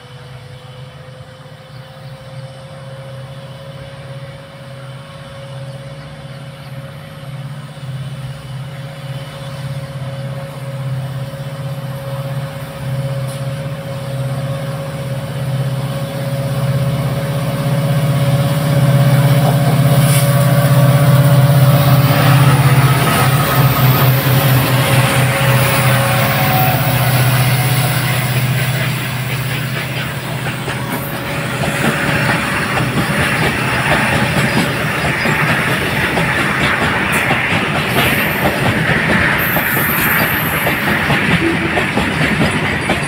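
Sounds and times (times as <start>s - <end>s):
diesel locomotive engines droning: 0.0s - 43.0s
steady engine whine: 0.0s - 43.0s.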